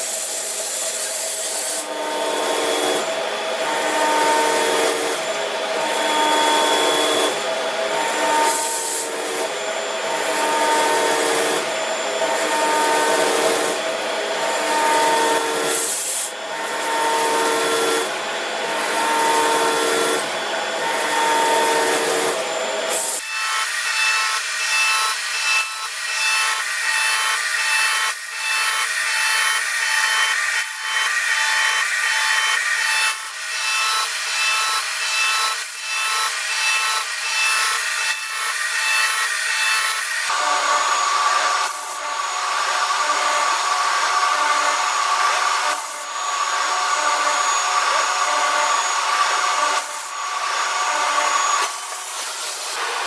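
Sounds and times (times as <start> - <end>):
machine tool cutting metal: 0.0 - 53.0.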